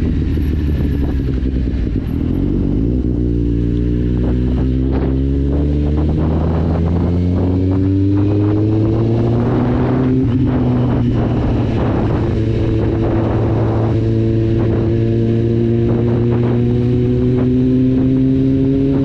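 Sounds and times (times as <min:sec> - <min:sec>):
motorcycle engine pulling steadily: 0:00.0 - 0:19.0.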